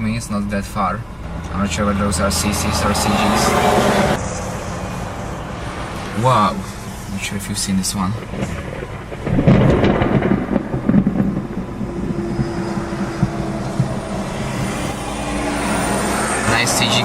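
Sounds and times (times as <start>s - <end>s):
thunder rumbling: 1.1s - 17.0s.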